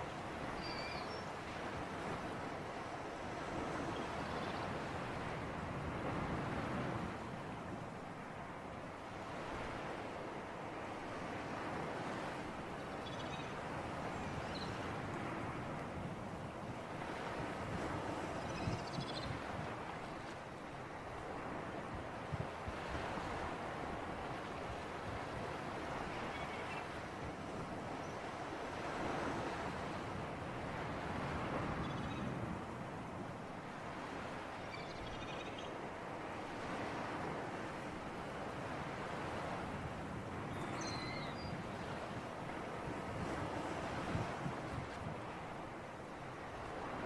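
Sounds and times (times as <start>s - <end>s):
waves washing in: 0.0s - 34.8s, 35.7s - 47.0s
wind: 0.0s - 47.0s.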